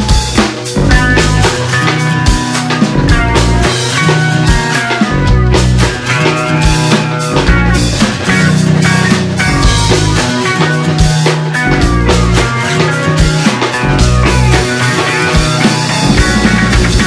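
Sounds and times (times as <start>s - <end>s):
drum kit and cymbal hits: 0.0s - 17.0s
rock band playing live: 0.0s - 17.0s.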